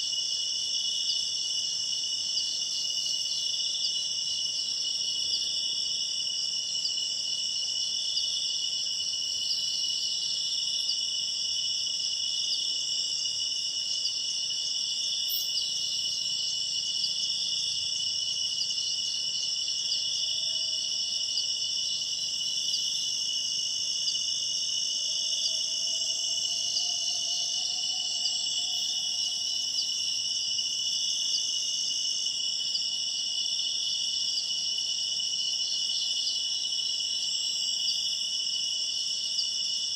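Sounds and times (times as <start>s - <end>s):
night insects shrilling: 0.0s - 39.9s.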